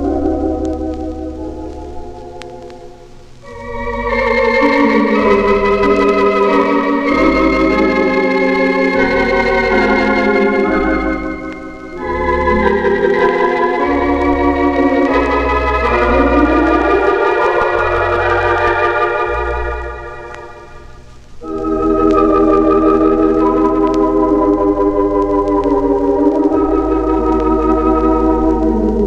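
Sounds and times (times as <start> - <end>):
organ playing a slow hymn: 0.0 - 29.0.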